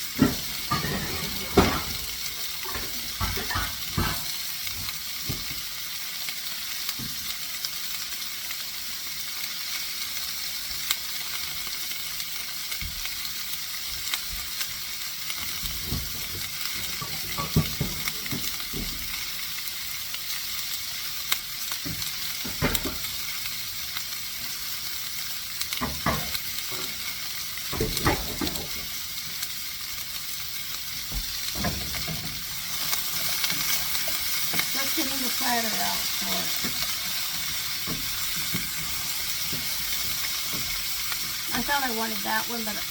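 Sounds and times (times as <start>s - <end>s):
chicken sizzling in oil: 0.0s - 42.9s.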